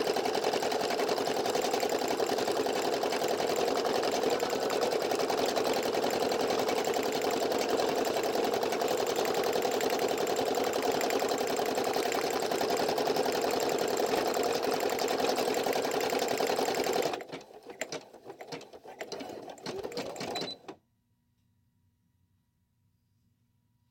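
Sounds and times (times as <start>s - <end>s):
embroidery machine stitching: 0.0s - 20.8s.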